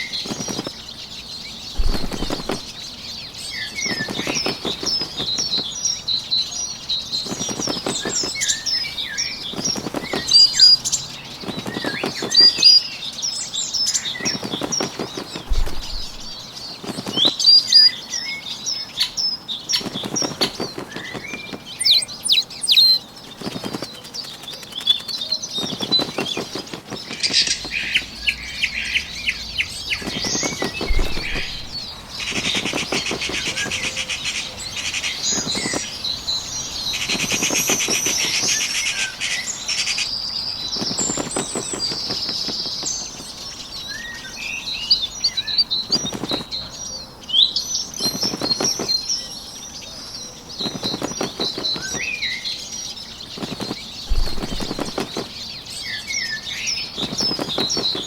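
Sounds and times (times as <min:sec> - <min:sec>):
wings flapping: 0:00.0 - 0:05.9, 0:07.1 - 0:12.8, 0:13.8 - 0:17.9, 0:19.6 - 0:40.0, 0:40.6 - 0:43.5, 0:45.8 - 0:46.7, 0:47.9 - 0:49.1, 0:50.4 - 0:52.2, 0:52.9 - 0:55.5, 0:56.9 - 0:58.0
small birds chirping: 0:00.0 - 0:58.0.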